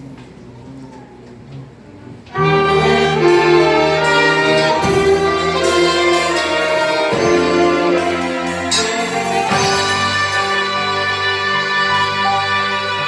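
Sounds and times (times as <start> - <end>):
orchestra with violins playing a hymn: 2.3 - 13.0.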